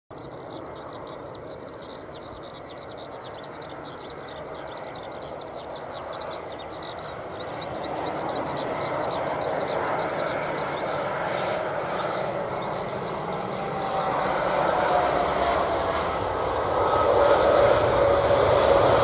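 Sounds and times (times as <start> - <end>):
jet engine noise: 0.1 - 19.0
small birds chirping: 0.1 - 19.0.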